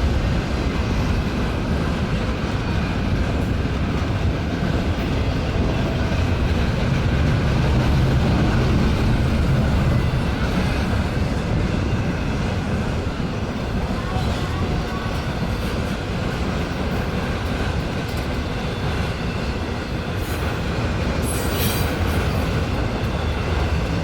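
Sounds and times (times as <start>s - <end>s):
freight train rolling past: 0.0s - 24.0s.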